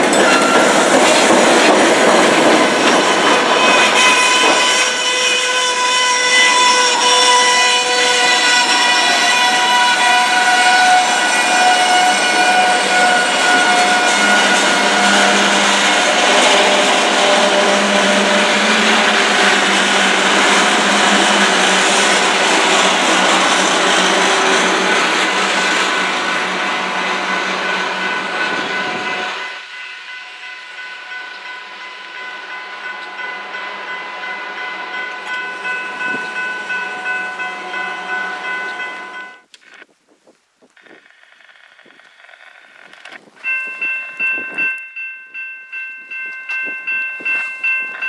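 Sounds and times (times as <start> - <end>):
crossing bell ringing: 0.0 - 1.0, 2.6 - 39.5, 43.4 - 48.0
freight train cars rolling: 0.0 - 39.8.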